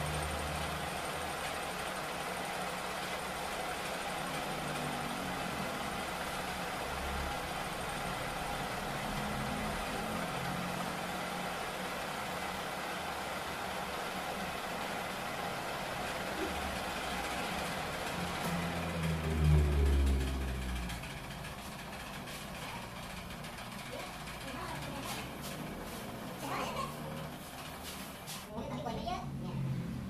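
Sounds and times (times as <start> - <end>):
metal lathe humming: 0.0 - 27.9.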